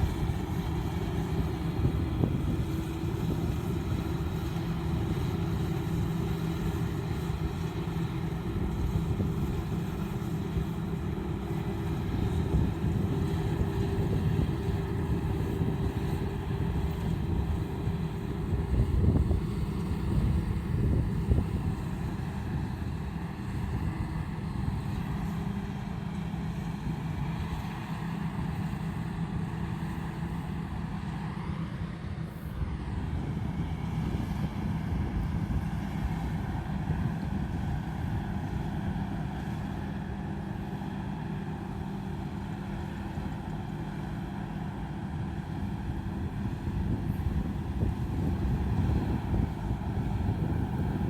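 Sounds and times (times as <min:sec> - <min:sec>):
combine harvester running: 0:00.0 - 0:51.0.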